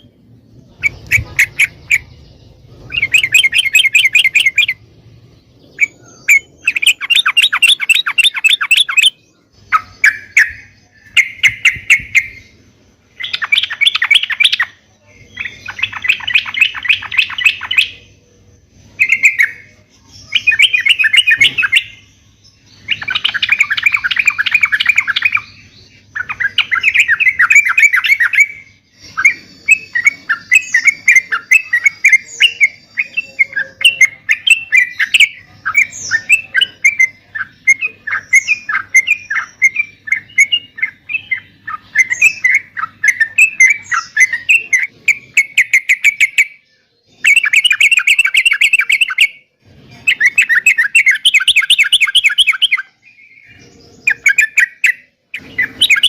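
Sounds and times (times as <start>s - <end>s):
bird singing rapid chattering: 0.0s - 56.0s.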